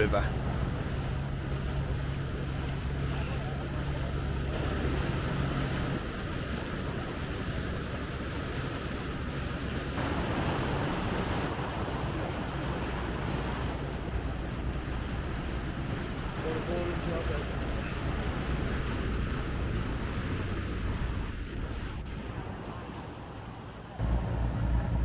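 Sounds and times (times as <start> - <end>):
boat engine running: 0.0 - 25.0
water rushing past hull: 0.0 - 25.0
wind buffeting microphone: 0.0 - 25.0.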